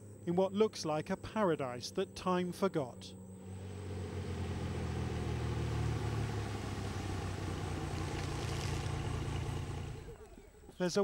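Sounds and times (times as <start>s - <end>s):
propeller engine droning: 1.8s - 10.8s.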